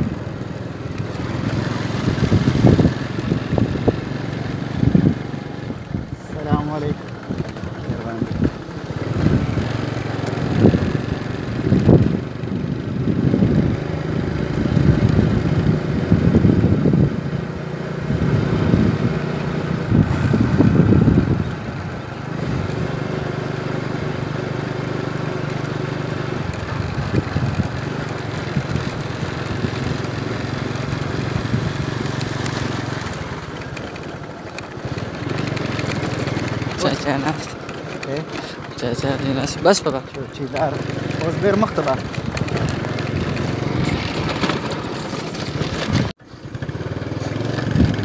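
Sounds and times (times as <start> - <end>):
low rumbling over dirt road: 0.0 - 48.0
vehicle engine running: 0.0 - 48.0.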